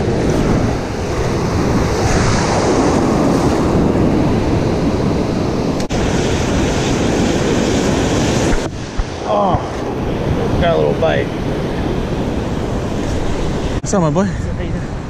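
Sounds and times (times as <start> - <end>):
ocean surf breaking: 0.0 - 13.9
wind buffeting microphone: 0.0 - 15.0.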